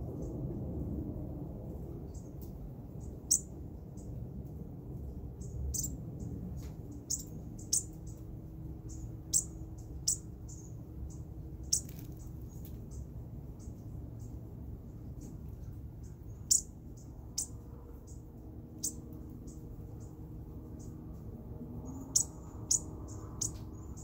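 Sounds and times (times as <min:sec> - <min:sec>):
songbird chirping: 0:02.1 - 0:04.2, 0:05.0 - 0:24.0.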